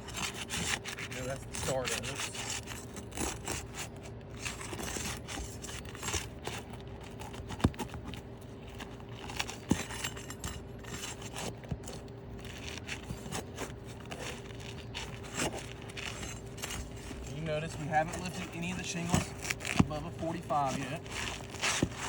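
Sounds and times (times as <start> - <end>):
faint steady hum: 0.0 - 22.0
shingles scraping and crinkling: 0.0 - 22.0.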